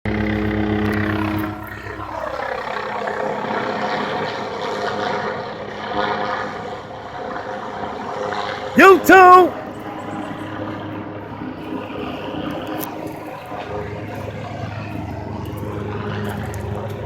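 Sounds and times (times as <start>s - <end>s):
helicopter rotor and engine drone: 0.1s - 17.0s.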